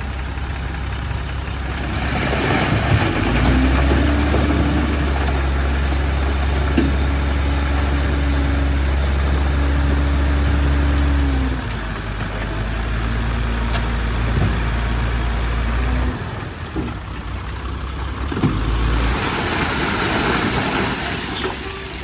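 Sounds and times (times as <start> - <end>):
heavy diesel machinery engine: 0.0 - 22.0.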